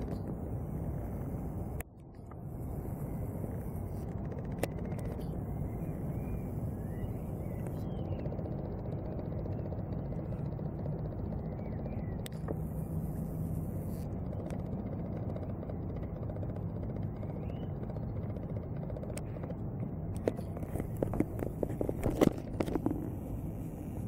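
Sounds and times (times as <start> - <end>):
crackling on the microphone: 0.0 - 24.0
jet airliner engines rumbling: 0.0 - 24.0.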